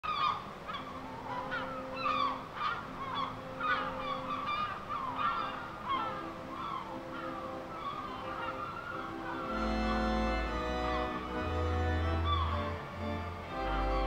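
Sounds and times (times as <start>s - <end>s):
flock of birds honking: 0.0s - 14.0s.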